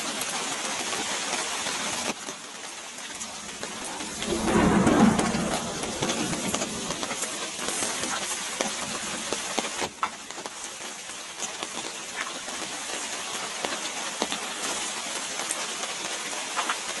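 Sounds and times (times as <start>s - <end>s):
steady rain falling: 0.0s - 17.0s
raindrops ticking: 1.2s - 17.0s.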